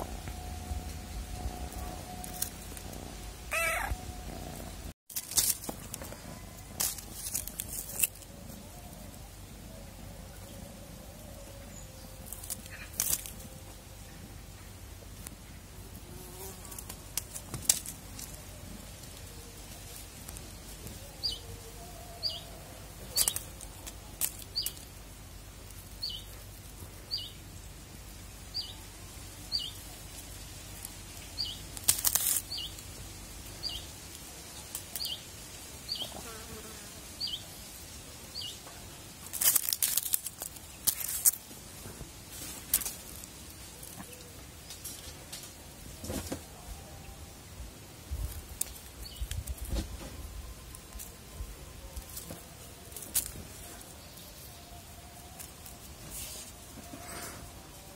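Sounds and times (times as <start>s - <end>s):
dry leaf crackling: 0.1s - 14.0s, 15.9s - 36.1s, 37.1s - 46.4s, 47.5s - 57.9s.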